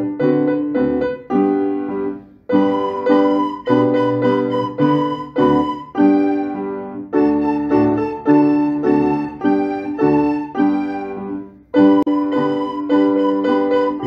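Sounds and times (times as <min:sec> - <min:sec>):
piano duet: 0:00.0 - 0:14.0.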